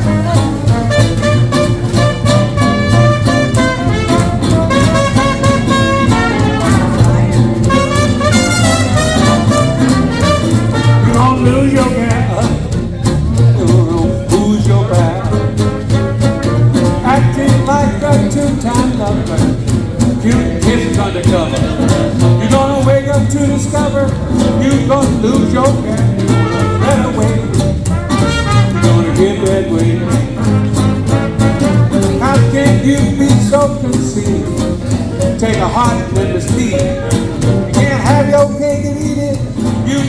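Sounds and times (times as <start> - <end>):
swing band playing: 0.0 - 40.0.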